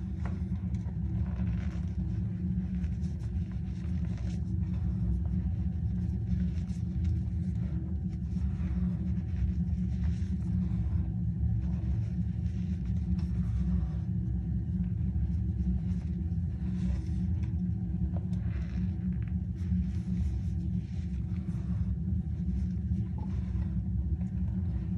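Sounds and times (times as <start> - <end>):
low rumble: 0.0 - 24.9.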